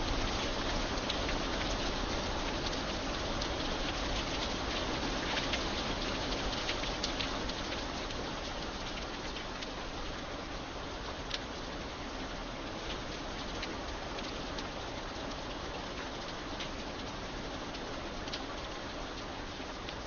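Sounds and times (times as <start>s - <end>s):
raindrops ticking: 0.0s - 10.3s, 11.0s - 12.0s, 12.7s - 20.0s
light rain falling: 0.0s - 20.0s.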